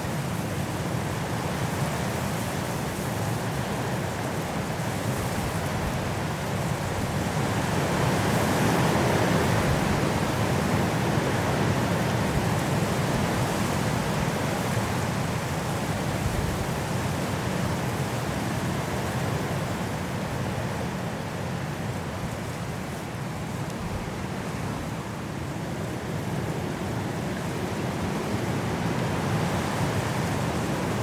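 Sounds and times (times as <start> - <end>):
strong wind through trees: 0.0 - 31.0.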